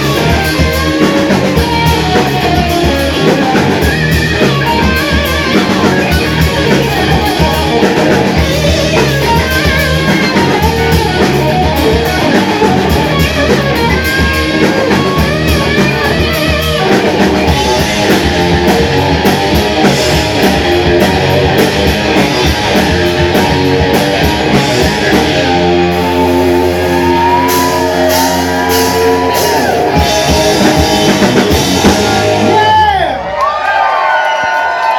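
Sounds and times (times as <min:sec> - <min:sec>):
drum kit: 0:00.0 - 0:33.4
electric guitar: 0:00.0 - 0:33.4
rock band playing: 0:00.0 - 0:34.9.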